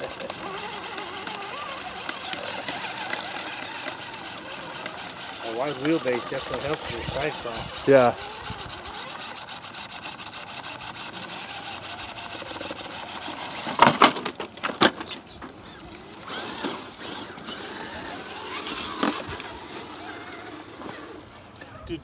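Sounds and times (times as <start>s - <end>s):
electric motor whir: 0.0s - 21.6s
toy car scraping rock: 0.0s - 21.6s.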